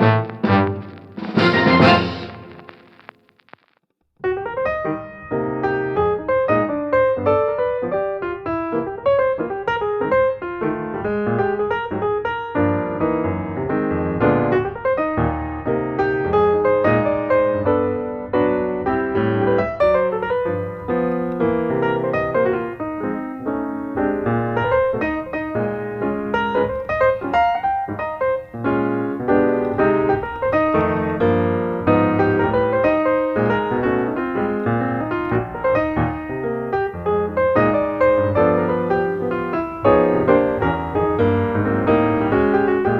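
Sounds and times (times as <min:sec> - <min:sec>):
piano music: 0:00.0 - 0:03.0, 0:04.6 - 0:42.9.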